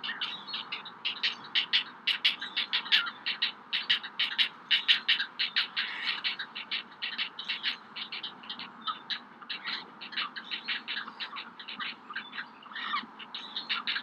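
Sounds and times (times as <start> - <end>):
heron chicks begging calls: 0.0 - 14.0.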